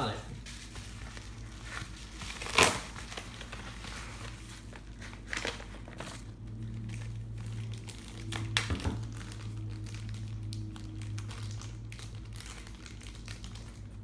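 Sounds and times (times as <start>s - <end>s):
steady low hum: 0.0s - 14.0s
packaging crinkling: 0.4s - 14.0s.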